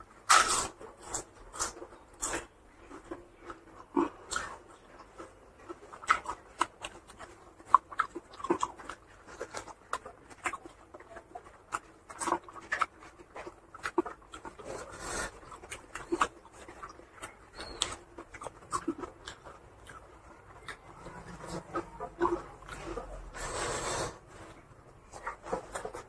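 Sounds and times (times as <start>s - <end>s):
chewing and lip smacking: 0.0s - 23.7s, 24.3s - 26.0s.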